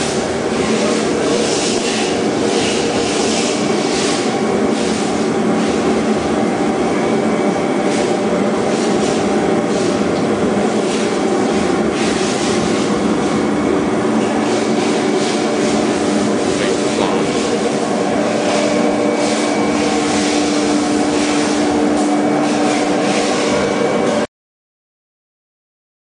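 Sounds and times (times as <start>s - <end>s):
cutting machine drone: 0.0s - 24.3s.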